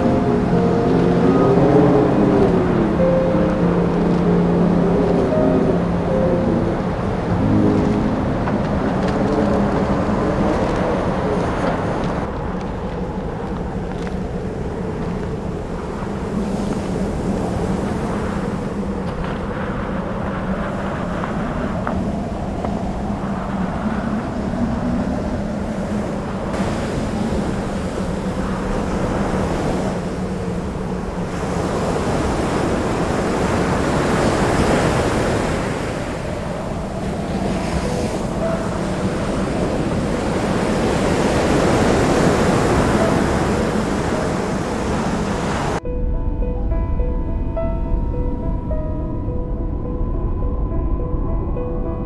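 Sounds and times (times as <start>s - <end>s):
surf washing over rocks: 0.0s - 45.8s
wind on microphone: 0.0s - 52.0s.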